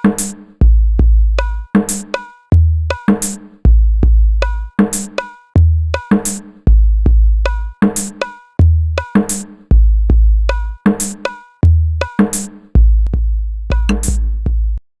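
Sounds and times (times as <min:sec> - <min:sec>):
electronic dance music with hand drums: 0:00.0 - 0:14.8.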